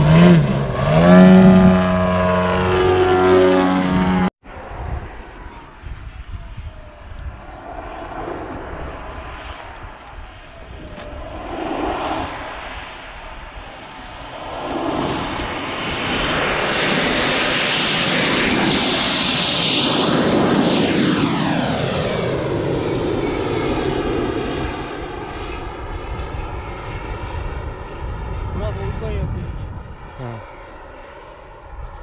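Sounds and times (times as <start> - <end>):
model jet engine whine: 0.0 - 32.0.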